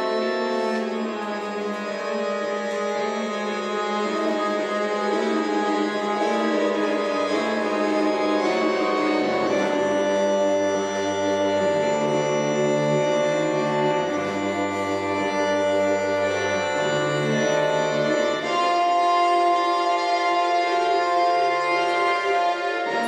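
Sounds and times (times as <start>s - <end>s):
music with long held chords: 0.0s - 23.0s.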